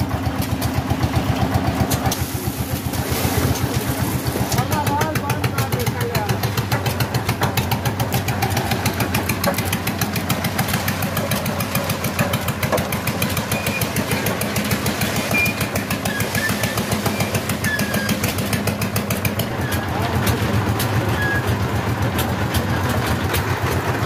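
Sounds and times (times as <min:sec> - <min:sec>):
concrete mixer engine running: 0:00.0 - 0:24.0.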